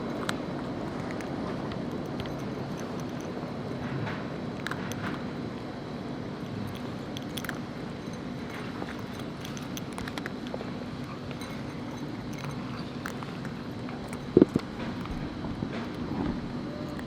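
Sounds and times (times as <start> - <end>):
cats crunching dry food: 0.0 - 17.0.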